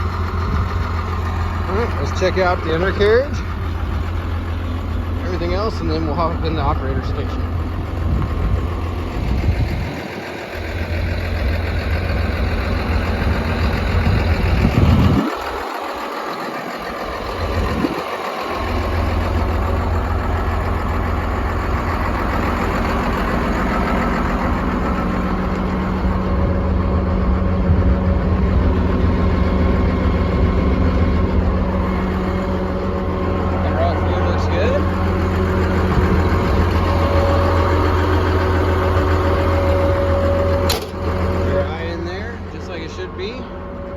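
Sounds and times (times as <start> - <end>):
bulldozer diesel engine idling: 0.0 - 43.9.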